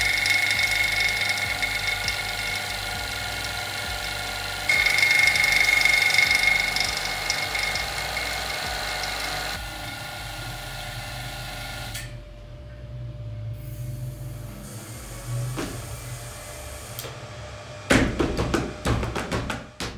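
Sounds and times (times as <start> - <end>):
high-pitched electrical whine: 0.0 - 17.9.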